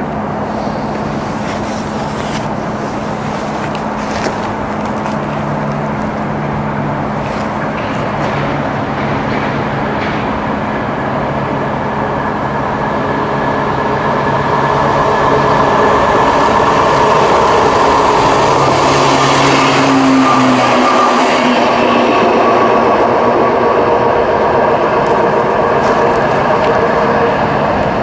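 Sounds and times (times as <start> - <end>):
steady roar and low hum: 0.0 - 28.0
train engine with rising whine: 0.0 - 28.0.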